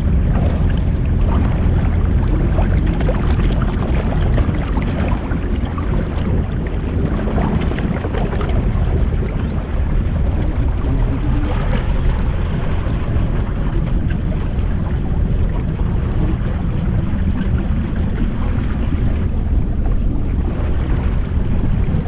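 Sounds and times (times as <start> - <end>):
jet ski engine drone: 0.0 - 22.0.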